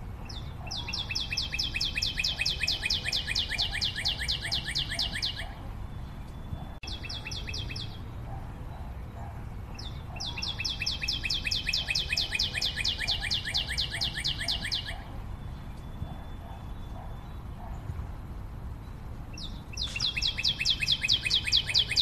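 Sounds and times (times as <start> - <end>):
bird chirping in fast runs: 0.2 - 18.1, 18.8 - 22.0.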